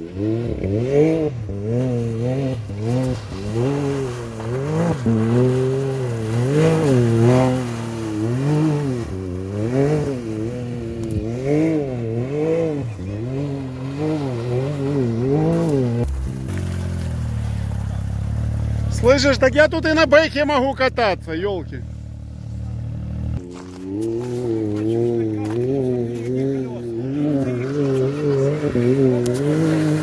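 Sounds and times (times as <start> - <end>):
engine revving: 0.0 - 30.0.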